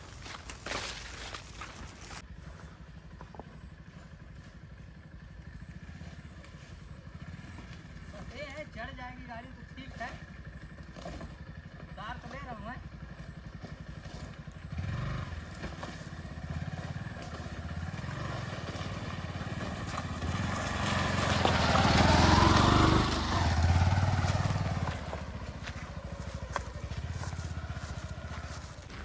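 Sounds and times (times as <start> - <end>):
vehicle engine running under load: 0.0 - 29.0.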